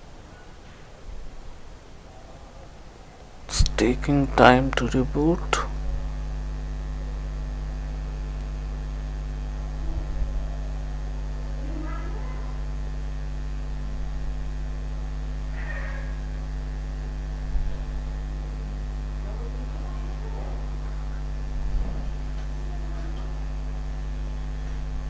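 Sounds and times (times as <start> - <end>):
low electrical mains hum: 0.0 - 25.0.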